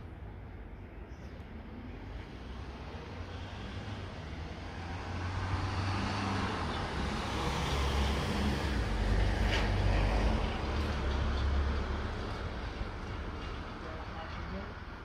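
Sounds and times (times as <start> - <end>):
passing vehicle rumble: 1.8 - 15.0.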